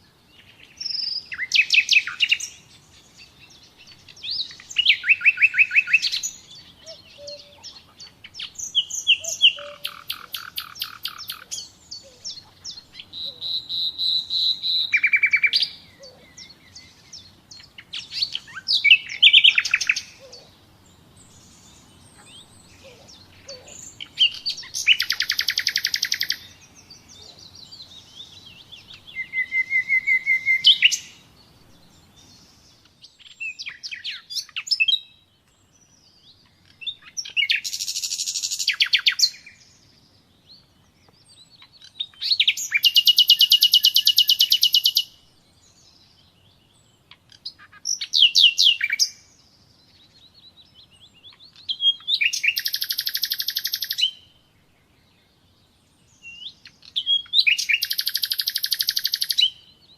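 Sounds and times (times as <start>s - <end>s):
nightingale singing trills: 0.0s - 59.9s.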